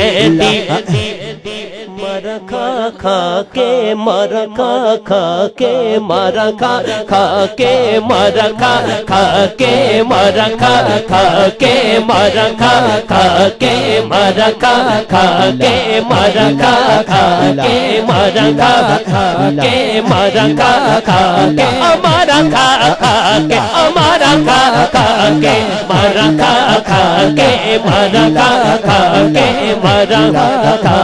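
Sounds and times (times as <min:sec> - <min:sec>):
person singing devotional song: 0:00.0 - 0:31.0.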